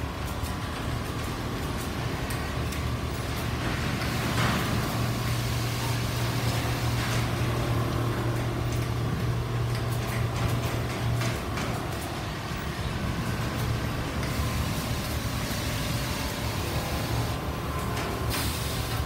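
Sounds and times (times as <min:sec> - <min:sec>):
quilting machines humming: 0:00.0 - 0:19.0.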